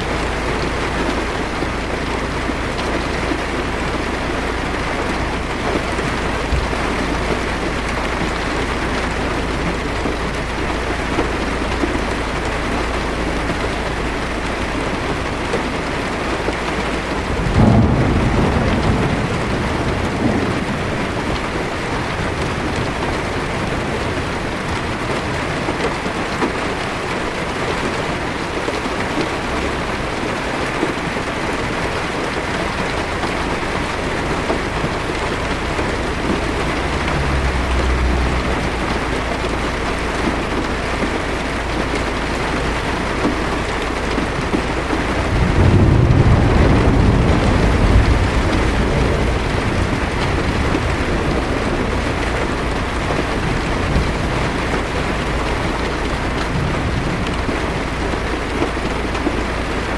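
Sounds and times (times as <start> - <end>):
heavy rain on car roof: 0.0 - 59.9
thunder rumble: 0.0 - 59.9.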